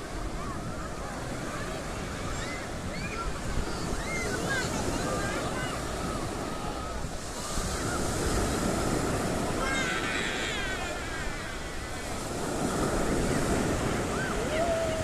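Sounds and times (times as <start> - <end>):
waves washing onto beach: 0.0 - 15.0.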